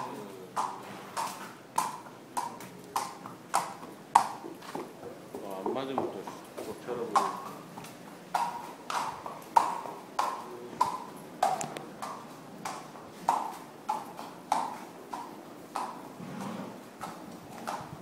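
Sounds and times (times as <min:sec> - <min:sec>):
horse hooves on concrete: 0:00.0 - 0:18.0.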